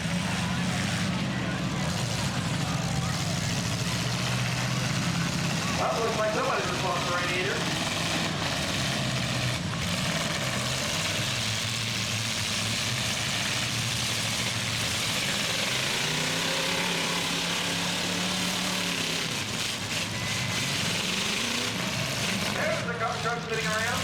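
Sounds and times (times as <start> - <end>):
engine revving: 0.0 - 24.0
truck engines running: 0.0 - 24.0.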